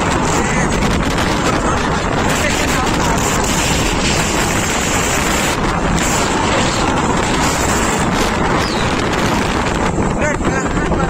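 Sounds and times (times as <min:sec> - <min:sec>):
motorcycle running: 0:00.0 - 0:11.0
road noise: 0:00.0 - 0:11.0
wind buffeting microphone: 0:00.0 - 0:11.0.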